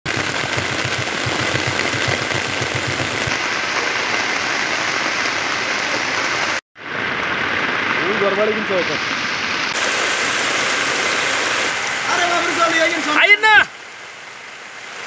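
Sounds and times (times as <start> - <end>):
heavy rain pouring onto water: 0.1 - 15.0.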